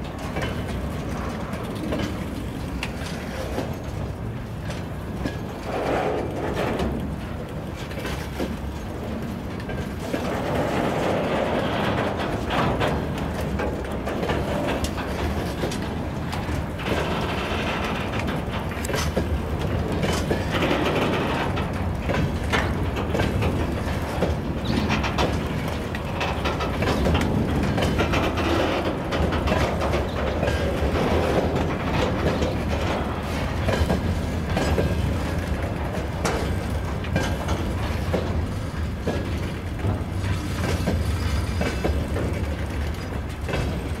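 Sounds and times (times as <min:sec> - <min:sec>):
low train rumble: 0:00.0 - 0:44.0
train wheels clacking on rail joints: 0:00.0 - 0:44.0.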